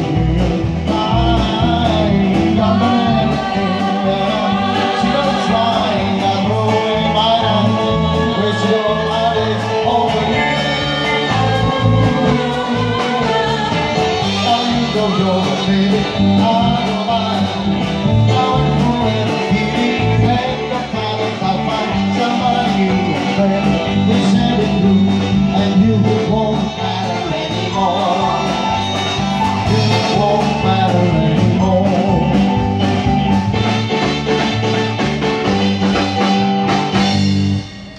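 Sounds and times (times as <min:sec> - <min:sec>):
man singing into a microphone: 0:00.0 - 0:32.7
electric guitar: 0:00.0 - 0:37.9
steady drum beat: 0:00.0 - 0:37.9.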